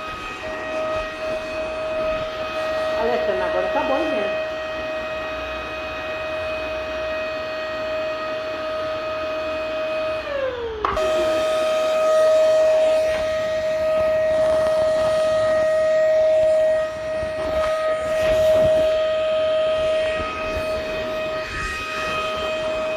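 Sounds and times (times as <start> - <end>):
vacuum cleaner motor whining: 0.0 - 22.9.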